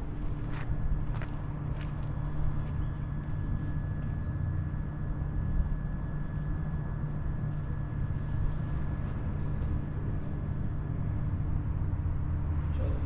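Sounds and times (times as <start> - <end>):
street rumble: 0.0 - 13.0.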